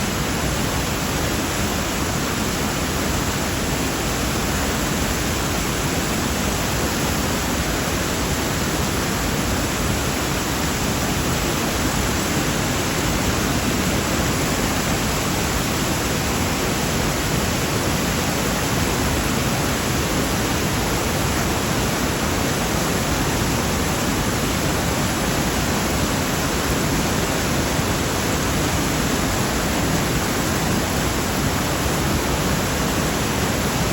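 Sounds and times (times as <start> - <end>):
floodwater rushing in river: 0.0 - 33.9.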